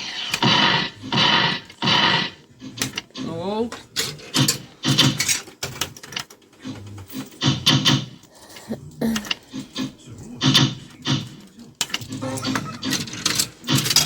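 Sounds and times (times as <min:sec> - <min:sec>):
amusement arcade background noise: 0:00.0 - 0:14.0.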